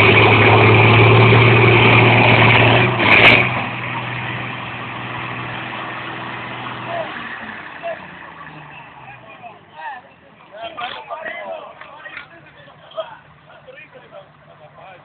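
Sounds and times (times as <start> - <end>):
tractor diesel engines revving: 0.0 - 15.0.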